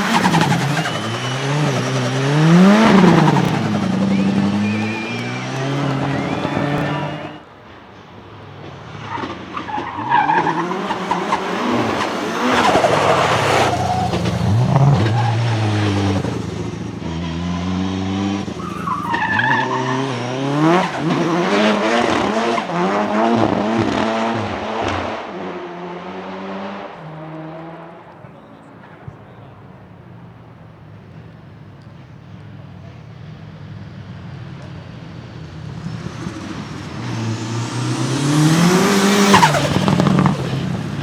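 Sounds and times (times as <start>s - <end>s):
tyres squealing: 0.0s - 16.6s, 18.3s - 22.8s, 26.9s - 41.0s
car engine revving: 0.0s - 41.0s.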